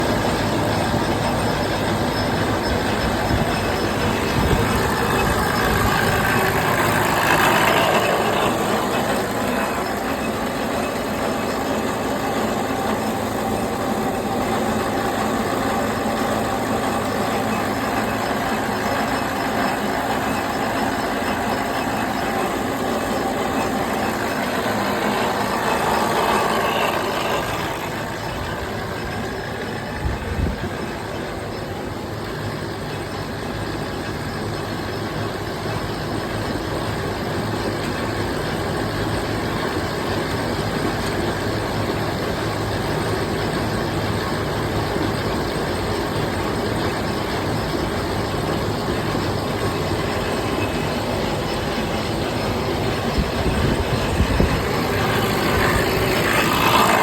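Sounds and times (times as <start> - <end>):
motor vehicle running: 0.0 - 57.0.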